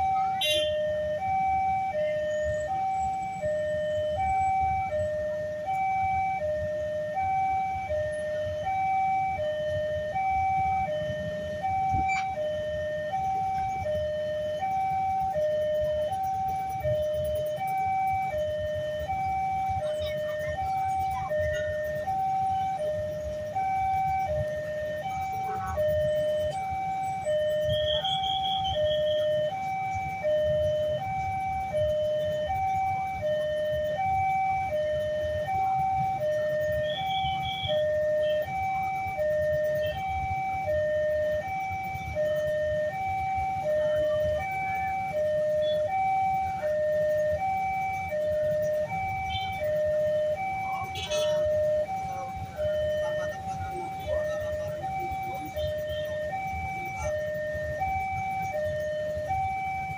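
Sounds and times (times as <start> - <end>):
two-tone electronic warning siren: 0.0 - 59.9.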